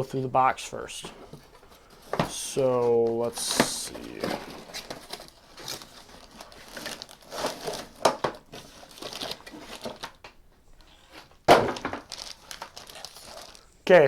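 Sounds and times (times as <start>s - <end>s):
plastic packaging crinkling: 1.3s - 13.8s.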